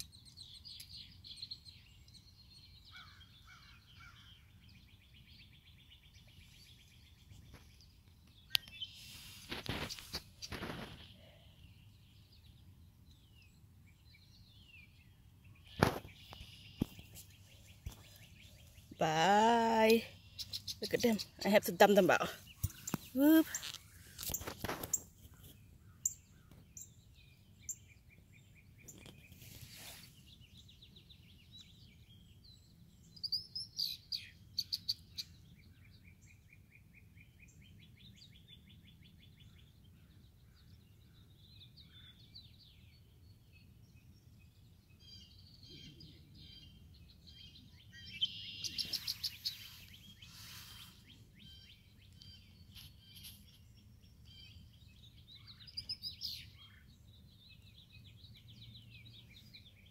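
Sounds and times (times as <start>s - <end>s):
birds trilling and chirping: 0.0s - 42.6s, 43.6s - 59.9s.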